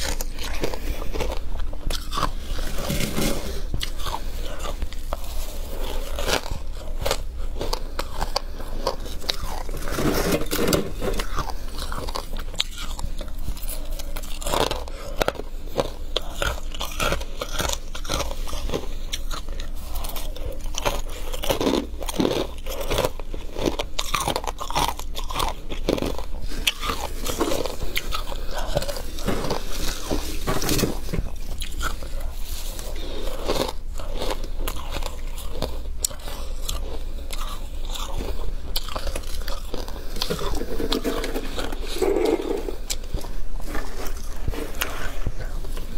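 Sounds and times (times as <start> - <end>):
chewing crunchy frost: 0.0 - 45.9.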